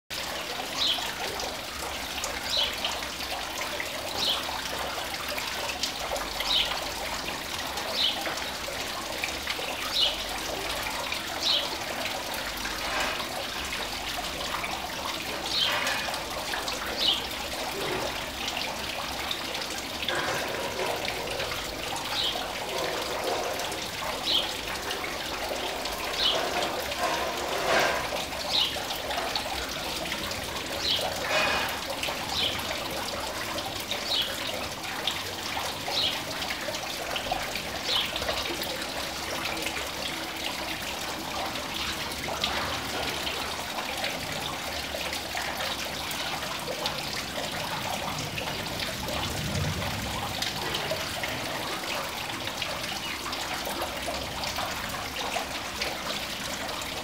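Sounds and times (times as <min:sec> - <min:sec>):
trickling water: 0:00.1 - 0:57.0.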